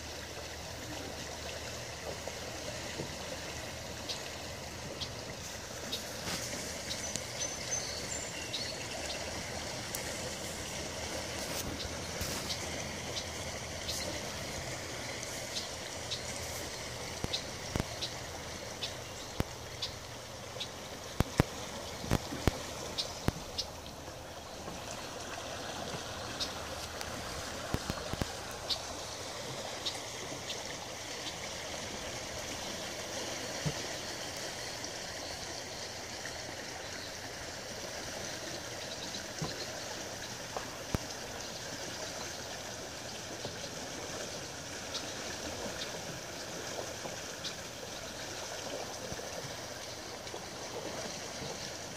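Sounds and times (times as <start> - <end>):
river water rushing over gravel: 0.0 - 51.9.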